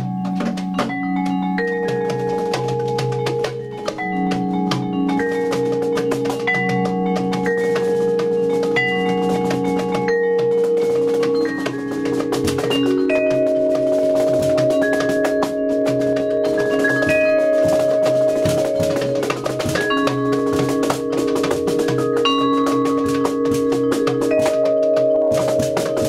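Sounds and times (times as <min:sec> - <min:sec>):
light dry percussion taps: 0:00.0 - 0:26.0
vibraphone notes ringing: 0:00.0 - 0:26.0.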